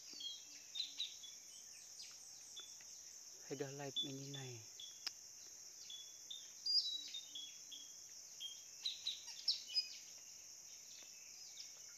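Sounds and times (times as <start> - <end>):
insect hiss: 0.0 - 11.9.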